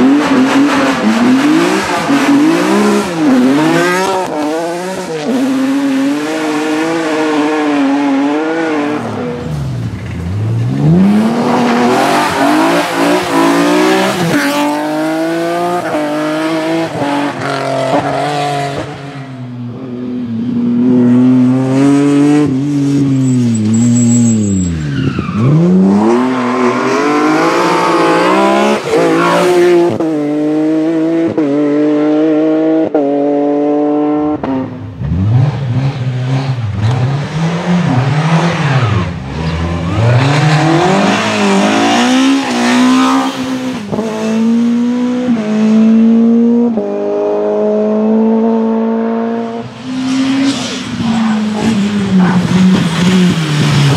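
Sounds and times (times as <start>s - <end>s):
rally car engine at full throttle: 0.0s - 53.9s.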